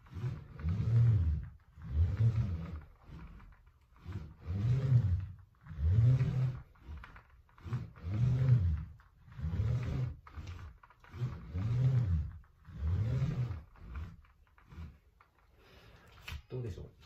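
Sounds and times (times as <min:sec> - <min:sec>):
ab wheel rolling on hardwood floor: 0:00.0 - 0:17.0.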